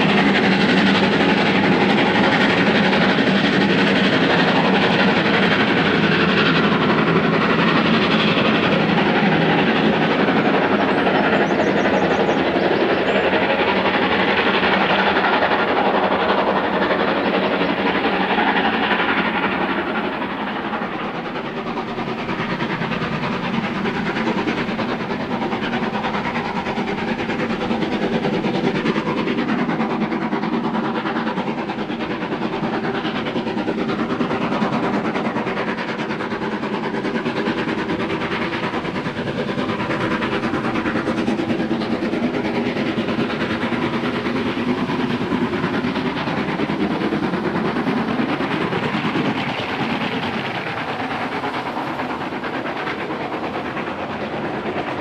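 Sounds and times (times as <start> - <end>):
steam locomotive exhaust beating: 0.0 - 55.0.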